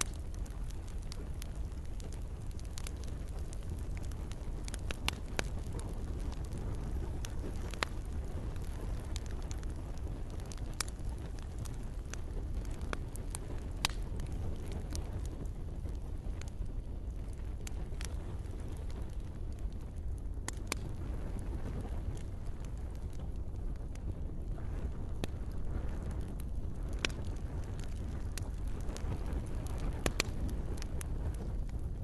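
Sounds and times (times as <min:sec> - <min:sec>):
campfire crackling and popping: 0:00.0 - 0:32.0
gentle rain: 0:00.0 - 0:32.0
low rumble of burning: 0:00.0 - 0:32.0.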